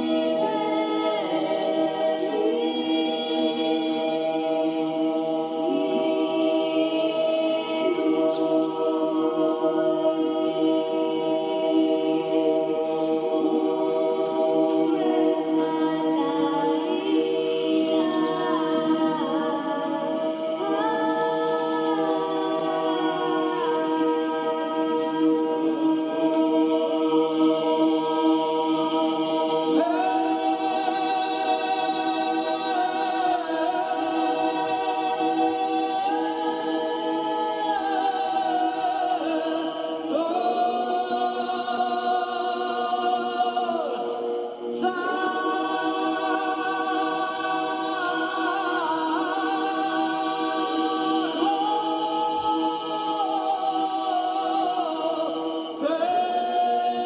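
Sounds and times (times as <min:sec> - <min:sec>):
a cappella voices singing: 0:00.0 - 0:57.0.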